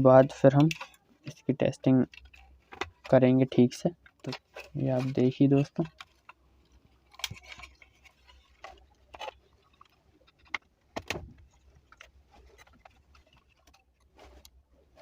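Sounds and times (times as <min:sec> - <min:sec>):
plastic parts clicking and knocking: 0:00.1 - 0:15.0.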